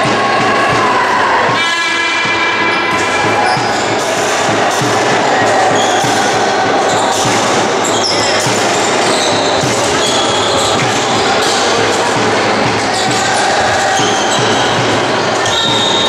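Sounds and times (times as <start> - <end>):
echoing hall background noise: 0.0 - 16.0.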